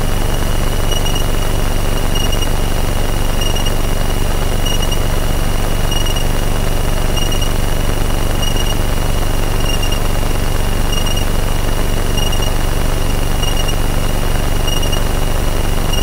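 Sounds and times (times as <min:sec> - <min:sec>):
high electronic warning beep: 0:00.2 - 0:06.4, 0:07.0 - 0:11.4, 0:12.0 - 0:16.0.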